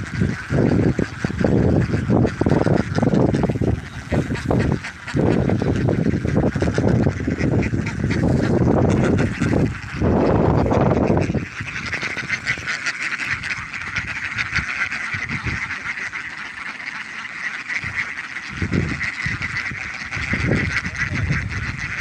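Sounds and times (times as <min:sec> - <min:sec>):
low noise on microphone: 0:00.0 - 0:16.7, 0:17.8 - 0:22.0
ducks quacking: 0:00.0 - 0:22.0.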